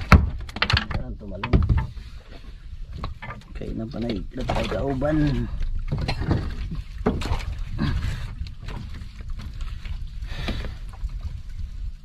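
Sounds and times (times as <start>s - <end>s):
rumble of water and wind: 0.0s - 12.0s.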